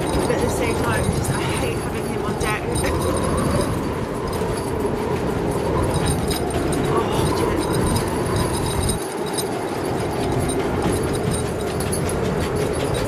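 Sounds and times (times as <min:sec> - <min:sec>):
storm wind rumbling rush: 0:00.0 - 0:13.0.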